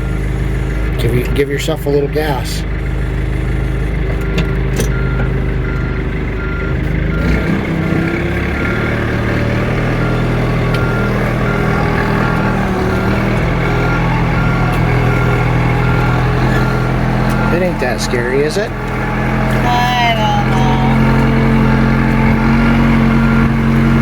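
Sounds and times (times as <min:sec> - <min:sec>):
backhoe engine running: 0:00.0 - 0:24.0
backup alarm beeping: 0:03.1 - 0:24.0.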